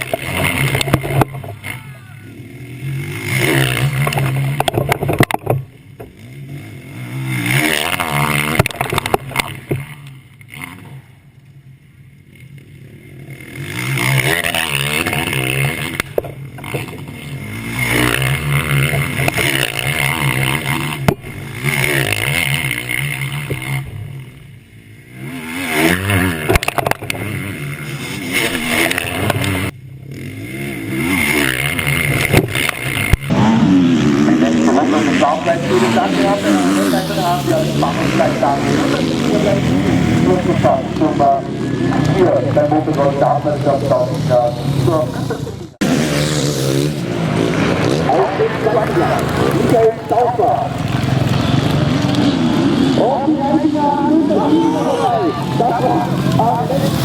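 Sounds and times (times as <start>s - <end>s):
motocross bikes revving past: 0.0s - 57.0s.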